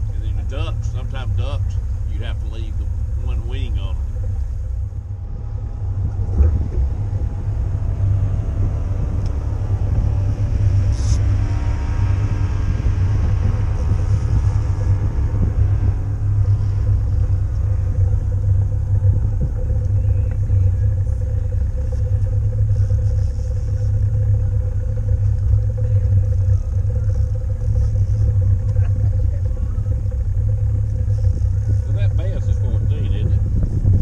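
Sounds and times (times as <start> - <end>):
boat motor: 0.0 - 34.0
faint steady hum: 0.0 - 34.0
wind buffeting microphone: 3.0 - 34.0.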